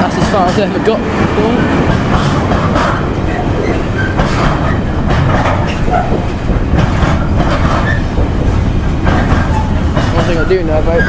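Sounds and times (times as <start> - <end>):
freight train low rumble: 0.0 - 11.0
wheels clattering over rail joints: 0.0 - 11.0.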